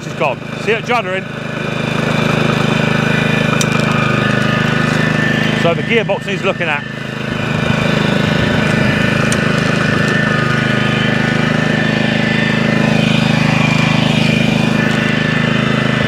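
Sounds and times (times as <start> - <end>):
mower engine running: 0.0 - 16.0.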